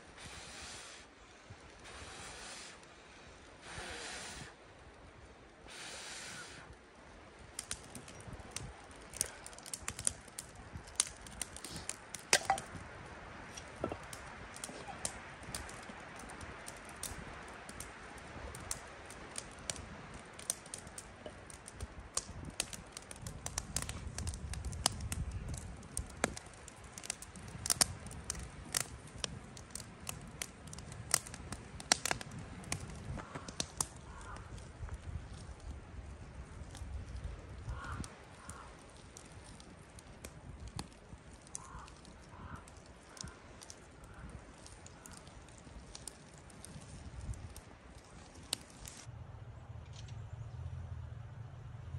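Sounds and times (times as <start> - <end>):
wood fire crackling and popping: 0.0 - 49.1.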